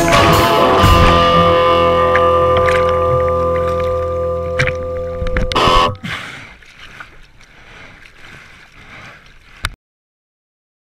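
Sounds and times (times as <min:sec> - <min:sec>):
water splashing over surfboard: 0:00.0 - 0:09.8
water sloshing against board: 0:00.1 - 0:09.8.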